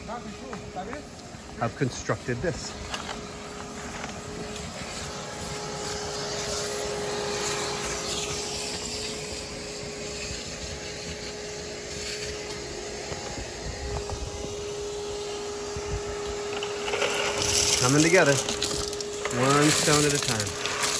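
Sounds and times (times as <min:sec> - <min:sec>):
machine humming and rushing: 0:00.0 - 0:20.9.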